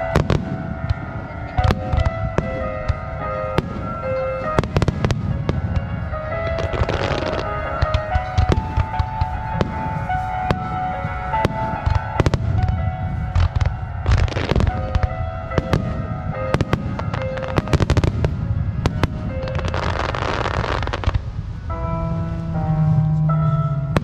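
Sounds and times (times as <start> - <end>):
music playing: 0.0 - 24.0.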